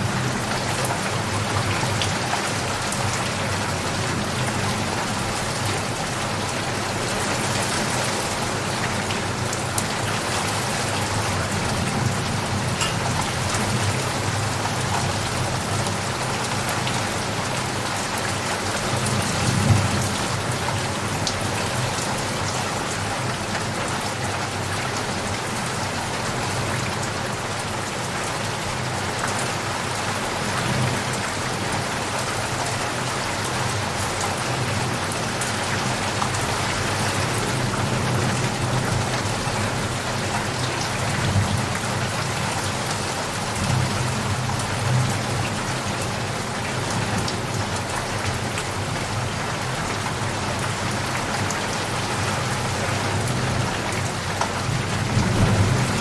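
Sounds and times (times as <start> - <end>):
rain falling on surfaces: 0.0 - 56.0.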